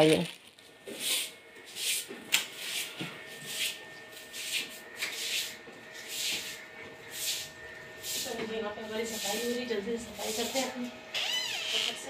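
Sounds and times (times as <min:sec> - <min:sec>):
broom sweeping hard floor: 0:00.8 - 0:10.8.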